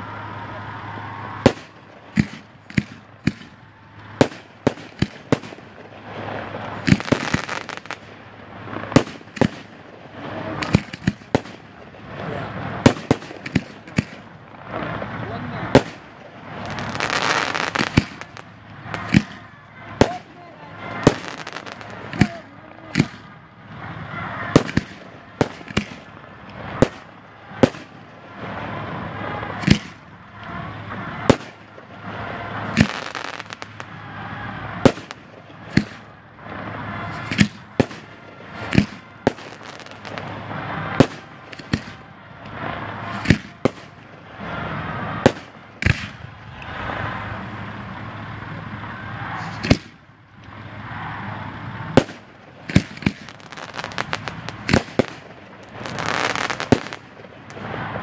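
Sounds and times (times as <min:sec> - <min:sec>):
fireworks bangs: 0:00.0 - 0:58.0
steady noisy rush: 0:00.0 - 0:58.0.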